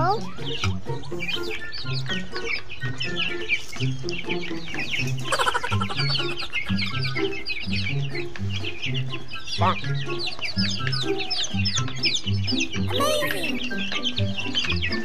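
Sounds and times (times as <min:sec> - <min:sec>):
background music with bass: 0:00.0 - 0:15.0
chicks peeping: 0:00.0 - 0:15.0.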